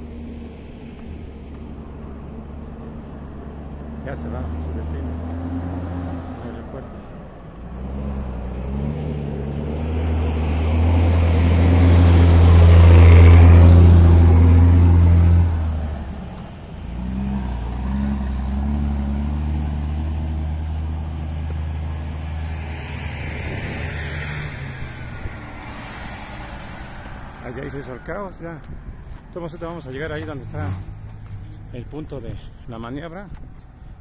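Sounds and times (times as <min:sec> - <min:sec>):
heavy truck engine passing: 0:00.0 - 0:32.8.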